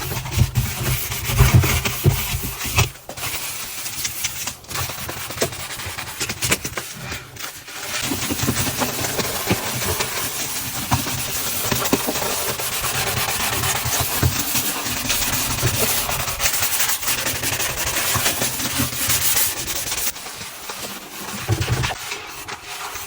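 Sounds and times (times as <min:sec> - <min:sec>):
scrubbing a hard surface: 0:00.0 - 0:23.0.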